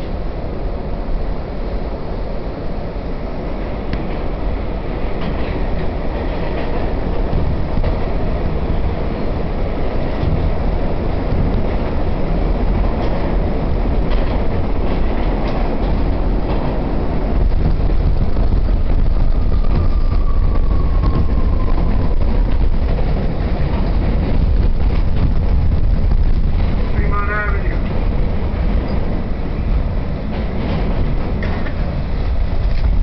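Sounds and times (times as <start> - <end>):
train wheels rumbling on rail: 0.0 - 33.0
rail-joint clicks: 3.6 - 18.9, 19.5 - 33.0.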